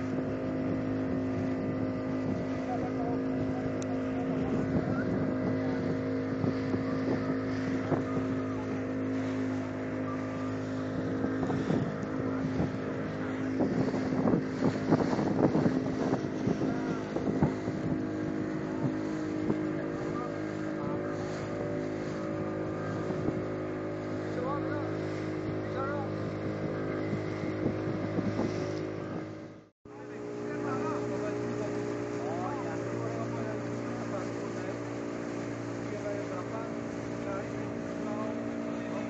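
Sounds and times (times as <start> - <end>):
hull knocking and splashing on waves: 0.0 - 39.0
outboard motor running: 0.0 - 39.0
water and wind rushing: 0.0 - 39.0.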